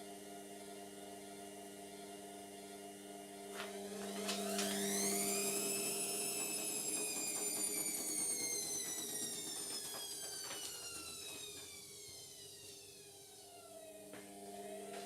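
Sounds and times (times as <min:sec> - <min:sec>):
washing machine motor whining: 0:00.0 - 0:15.0.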